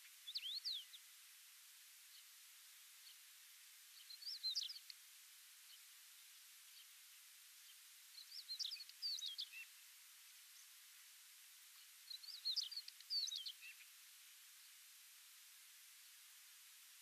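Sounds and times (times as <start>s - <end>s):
bird song chirping: 0.0s - 1.2s, 2.0s - 14.9s.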